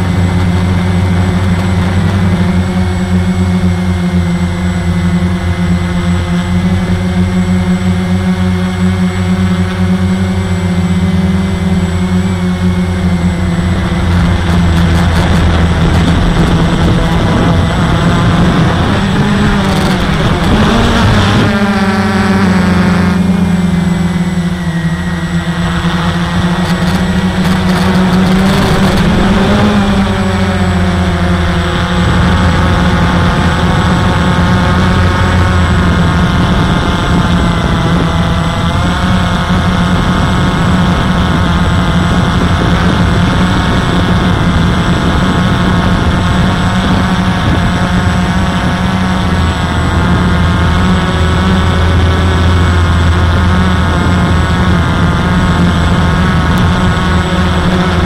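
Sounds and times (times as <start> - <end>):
quadcopter propellers buzzing: 0.0 - 58.0.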